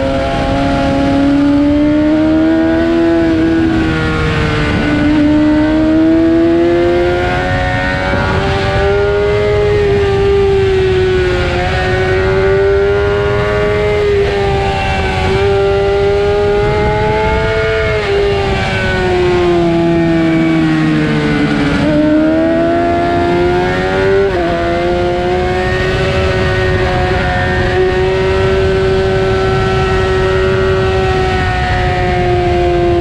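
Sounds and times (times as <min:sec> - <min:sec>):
heavy wind rush: 0:00.0 - 0:33.0
motorcycle engine at high revs: 0:00.0 - 0:33.0.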